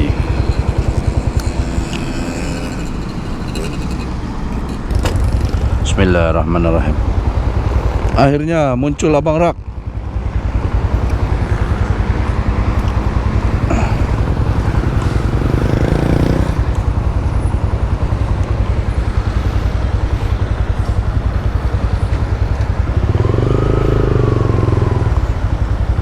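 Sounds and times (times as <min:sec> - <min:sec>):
another vehicle engine: 0:00.0 - 0:26.0
motorcycle engine running: 0:00.0 - 0:26.0.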